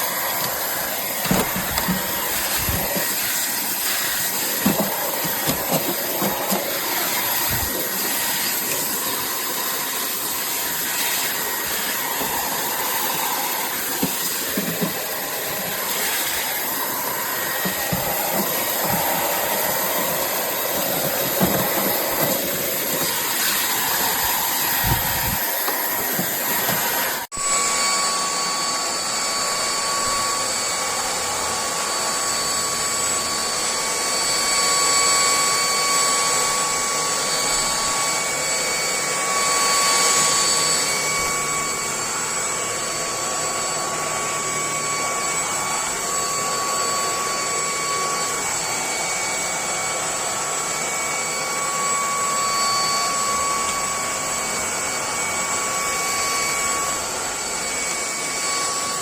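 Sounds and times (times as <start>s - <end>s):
stick vacuum motor whining: 0.0s - 59.0s.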